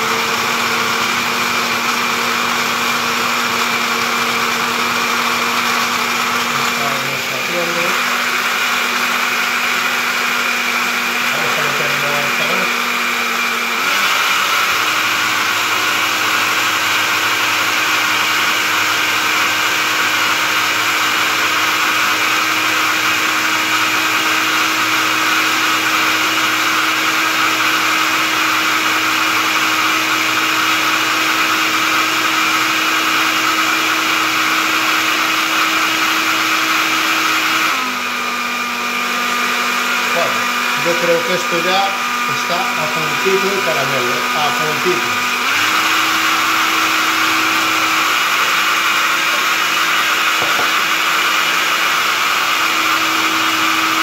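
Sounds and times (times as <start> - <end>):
blender motor running: 0.0 - 54.0.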